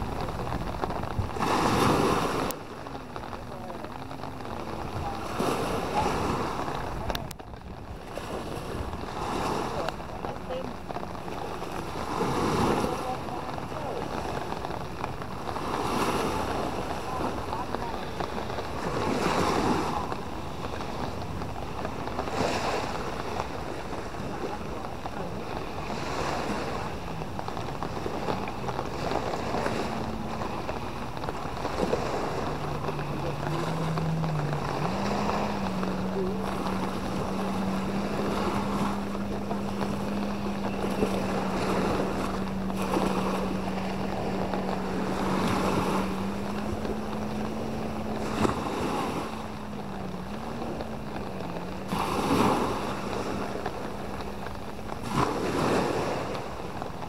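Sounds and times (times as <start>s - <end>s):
jet ski engine idling: 0.0s - 57.0s
small waves washing on shore: 0.0s - 57.0s
wind buffeting microphone: 0.0s - 57.0s.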